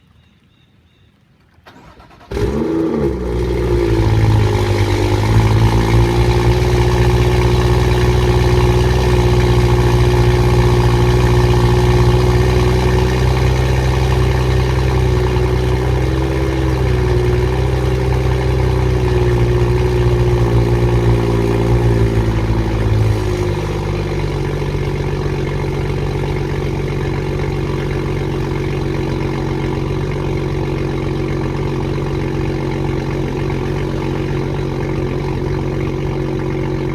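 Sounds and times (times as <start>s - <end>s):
car engine starting and idling: 1.4s - 36.9s.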